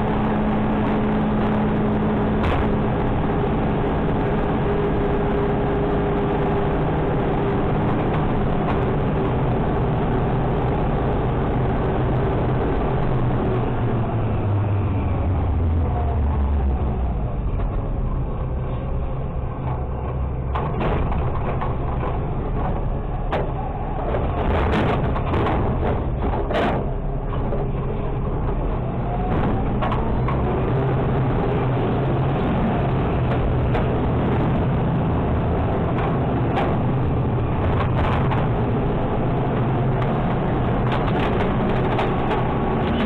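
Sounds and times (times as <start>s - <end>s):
garbage truck engine running: 0.0s - 43.0s.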